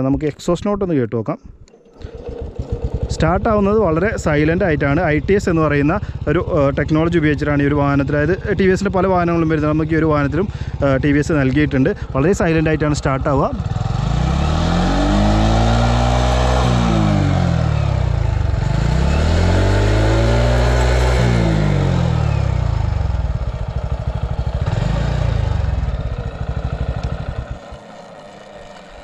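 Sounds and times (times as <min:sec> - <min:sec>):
moped engine revving and idling: 0:01.7 - 0:29.0.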